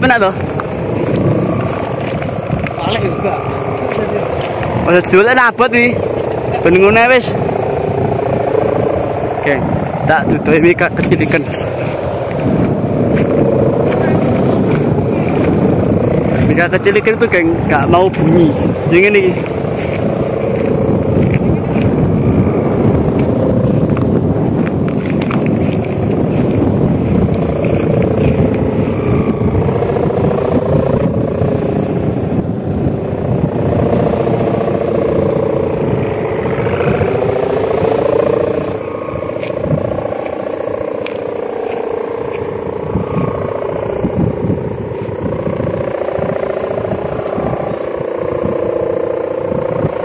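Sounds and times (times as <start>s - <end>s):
kite hummer droning: 0.0s - 50.0s
wind rumble on microphone: 0.0s - 50.0s.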